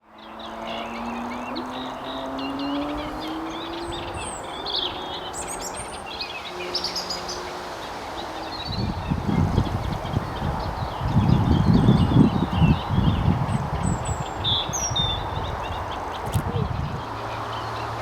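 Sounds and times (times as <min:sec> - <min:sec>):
bird singing chattering notes: 0:00.0 - 0:18.0.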